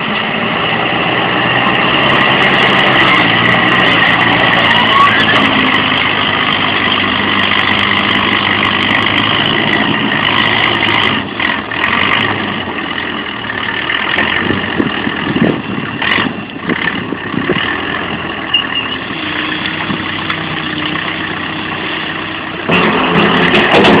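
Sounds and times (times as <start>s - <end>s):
engine knocks and clatter: 0.0s - 24.0s
vehicle engine running: 0.0s - 24.0s.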